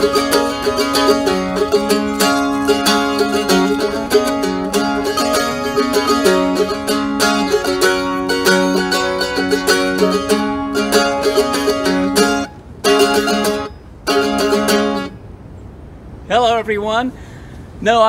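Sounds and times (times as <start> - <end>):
mandolin playing: 0.0 - 15.3.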